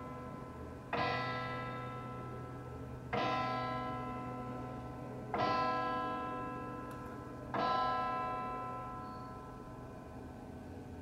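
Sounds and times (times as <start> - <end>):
church bell tolling: 0.0 - 10.6.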